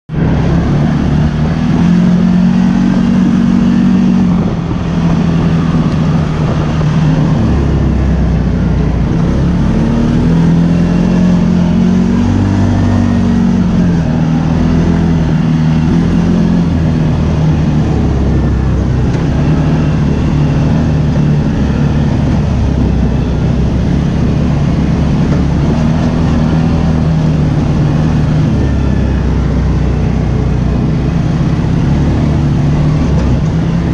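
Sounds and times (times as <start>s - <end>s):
atv engine revving: 0.1s - 33.9s.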